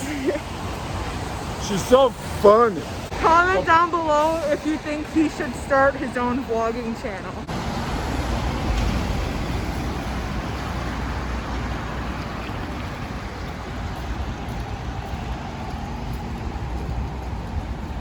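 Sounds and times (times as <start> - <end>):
city street noise: 0.0 - 18.0
wind buffeting microphone: 0.0 - 18.0.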